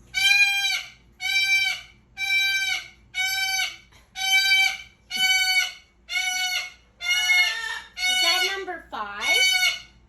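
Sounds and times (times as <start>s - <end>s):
parrot calling: 0.1s - 10.0s.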